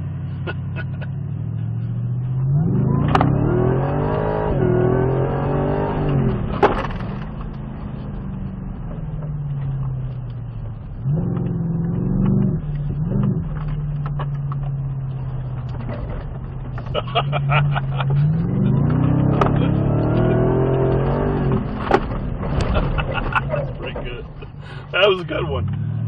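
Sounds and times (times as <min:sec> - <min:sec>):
engine revving from inside cab: 0:00.0 - 0:26.0.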